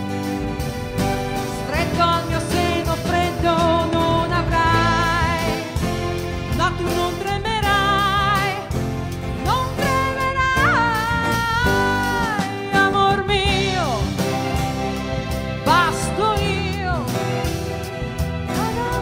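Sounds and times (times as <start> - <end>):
pop band playing: 0.0 - 19.0
woman singing with vibrato: 1.4 - 14.5, 15.6 - 17.4, 18.5 - 19.0.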